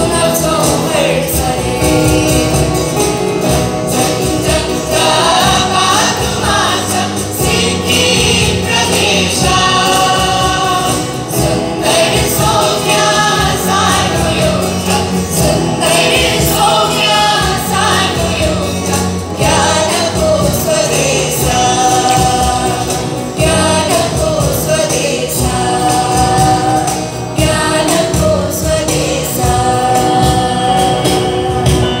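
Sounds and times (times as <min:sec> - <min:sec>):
acoustic guitar chords: 0:00.0 - 0:32.0
choir singing: 0:00.0 - 0:32.0.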